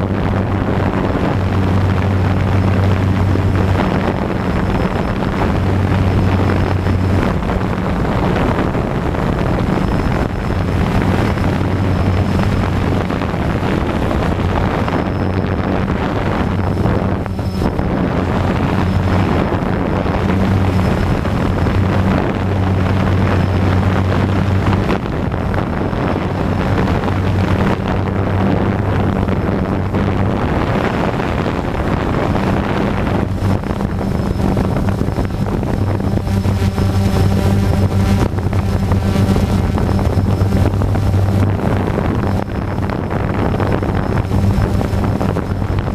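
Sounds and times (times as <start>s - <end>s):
drone propellers droning: 0.0s - 45.9s
wind on microphone: 0.0s - 45.9s.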